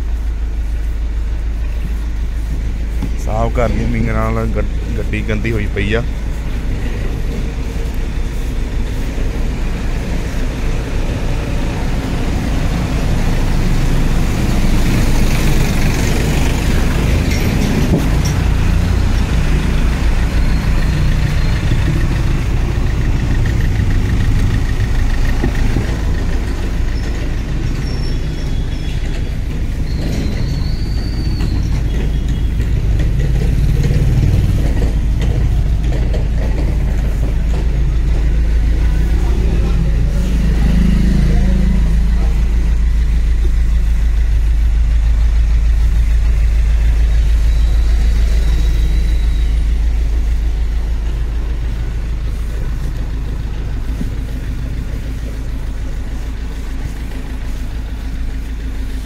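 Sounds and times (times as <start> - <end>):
low rumble of car: 0.0 - 59.0.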